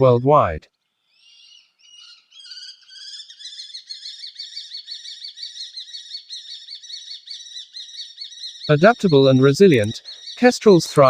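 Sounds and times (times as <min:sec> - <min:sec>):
kestrel calling: 0:01.0 - 0:11.0.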